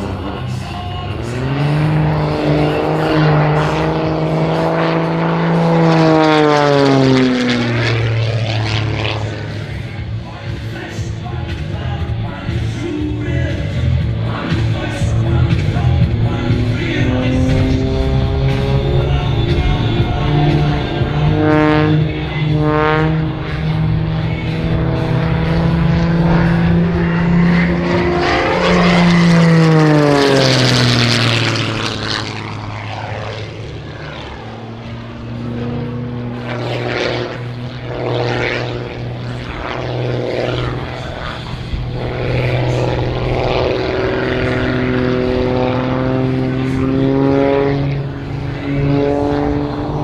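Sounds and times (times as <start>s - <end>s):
plane engine and propeller: 0.0s - 50.0s.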